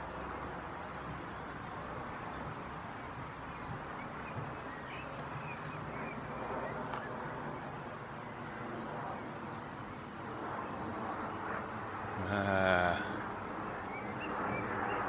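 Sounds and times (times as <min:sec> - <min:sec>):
steady hiss and low rumble: 0:00.0 - 0:15.0.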